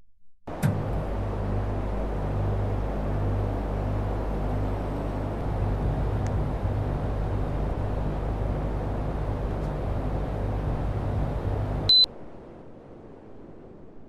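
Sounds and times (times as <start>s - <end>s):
air conditioner running: 0.5s - 12.1s.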